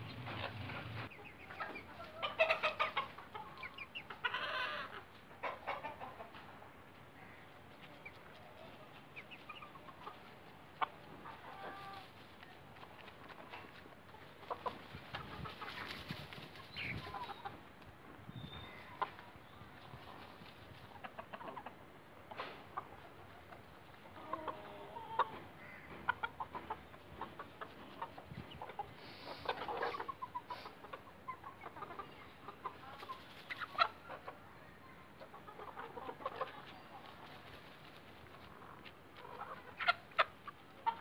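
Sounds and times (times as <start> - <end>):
hens clucking: 0.0 - 17.8, 18.7 - 41.0.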